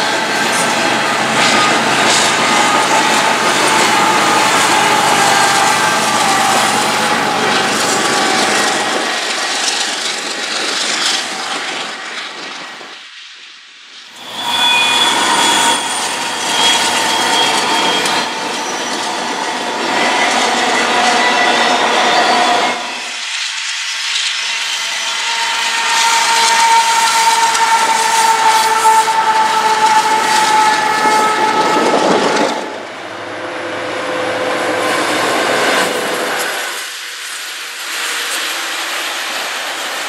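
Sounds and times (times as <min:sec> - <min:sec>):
diesel locomotive high tones: 0:00.0 - 0:12.8, 0:14.1 - 0:40.0
freight train wheels rumbling: 0:00.0 - 0:40.0.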